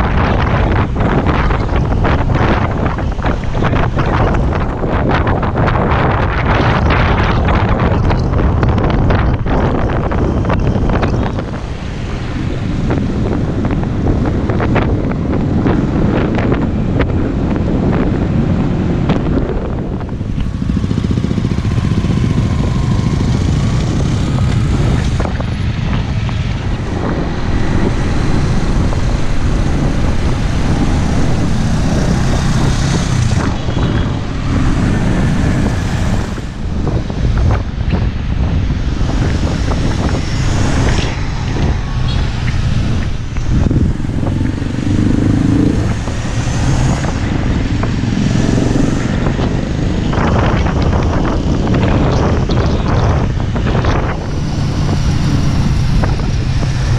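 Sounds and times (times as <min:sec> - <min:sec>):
motorcycle engines running: 0:00.0 - 0:56.9
wind noise on microphone: 0:00.0 - 0:56.9.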